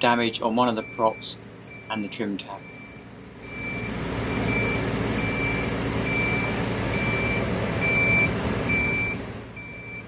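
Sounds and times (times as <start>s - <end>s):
warning beeper: 0.6s - 10.0s.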